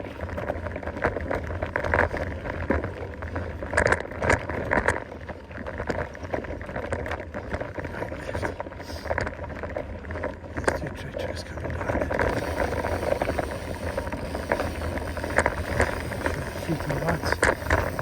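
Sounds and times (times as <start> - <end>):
bike rattling over bumps: 0.0 - 18.0
low rumble of rolling tyres: 0.0 - 18.0.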